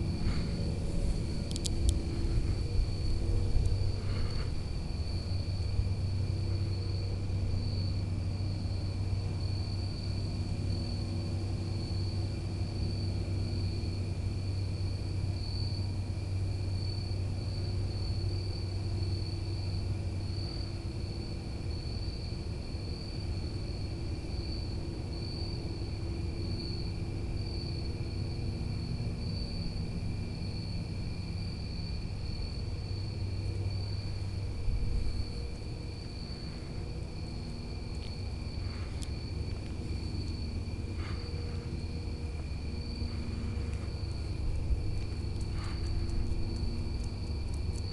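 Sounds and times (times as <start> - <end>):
crickets chirping: 0.0 - 47.9
low droning hum: 0.0 - 47.9.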